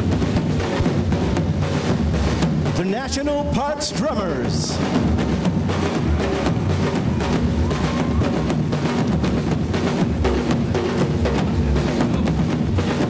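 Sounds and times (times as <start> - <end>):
drum ensemble playing fast rhythm: 0.0 - 13.0.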